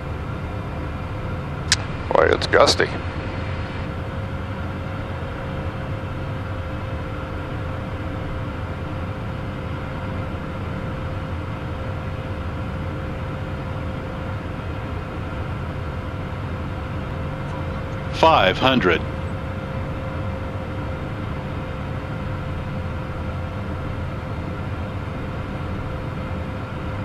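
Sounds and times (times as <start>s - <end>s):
jet cockpit airflow noise: 0.0s - 27.0s.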